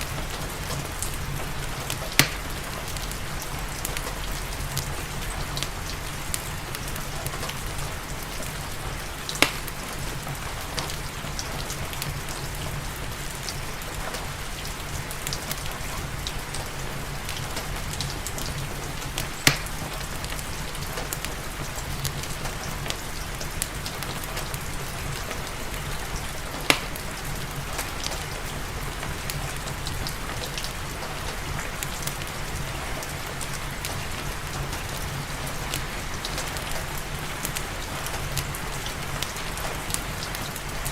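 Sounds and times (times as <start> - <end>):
fireplace crackling: 0.0 - 40.9
steady rain: 0.0 - 40.9.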